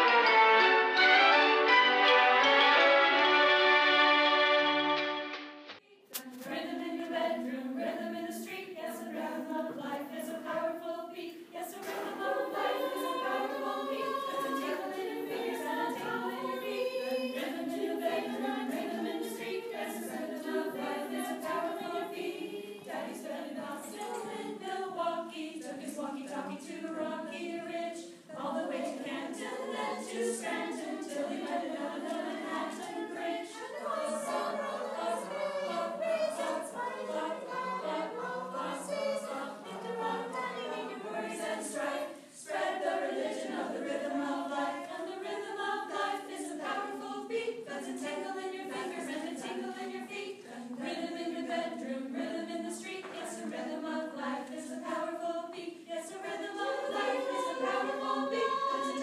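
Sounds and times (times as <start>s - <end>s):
women singing a cappella jazz: 6.0s - 59.0s.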